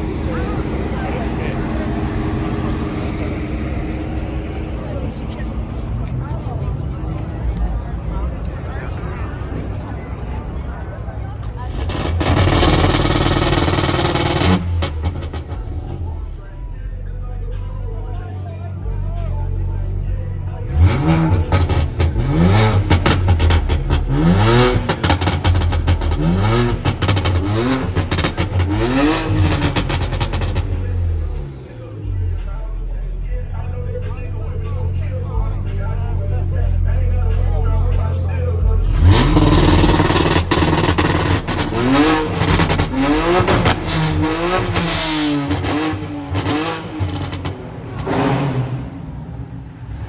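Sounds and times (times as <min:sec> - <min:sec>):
sharp engine crackles: 0:00.0 - 0:06.6, 0:11.4 - 0:16.8, 0:20.6 - 0:50.0
car engine revving: 0:00.0 - 0:50.0.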